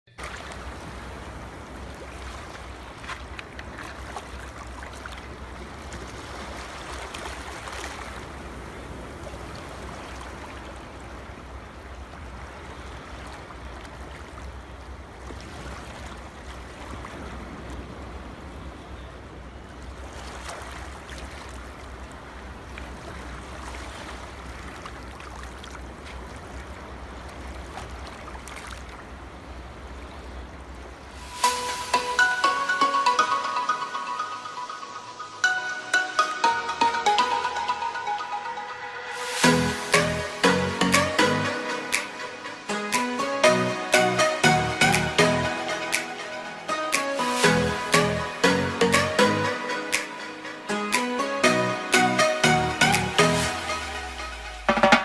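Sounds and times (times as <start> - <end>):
sea waves washing in: 0.1 - 55.0.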